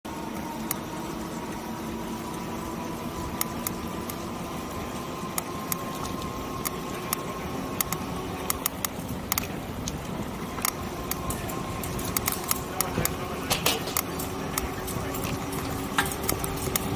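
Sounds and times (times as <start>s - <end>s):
tyre and road noise: 0.0s - 16.9s
electric motor whining: 0.1s - 16.9s
bike clicks and rattles: 0.6s - 16.9s.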